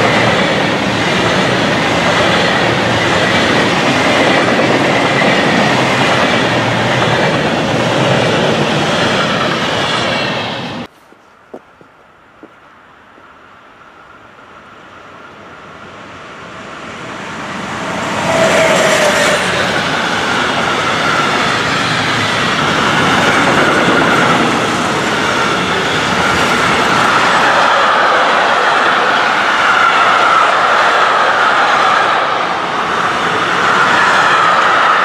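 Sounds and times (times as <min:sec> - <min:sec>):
train wheels rumbling on rail: 0:00.0 - 0:10.9, 0:15.4 - 0:35.0.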